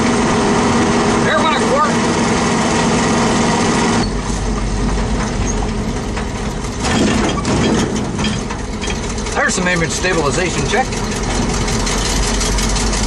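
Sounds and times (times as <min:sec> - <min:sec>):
pickup engine and road noise: 0:00.0 - 0:13.0.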